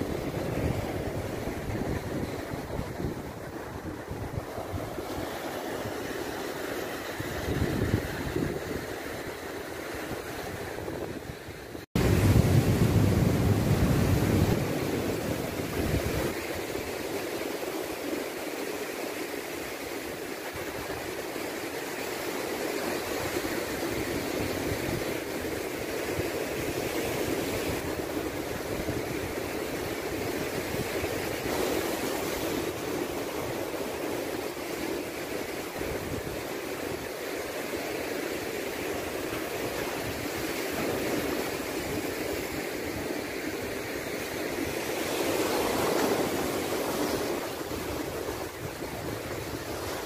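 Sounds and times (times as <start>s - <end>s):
low rumble of waves: 0.0s - 50.0s
surf breaking on rocky shore: 0.0s - 50.0s.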